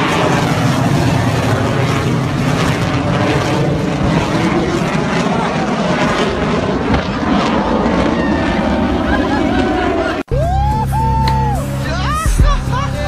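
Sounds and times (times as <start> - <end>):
jet engine roar: 0.0 - 12.8.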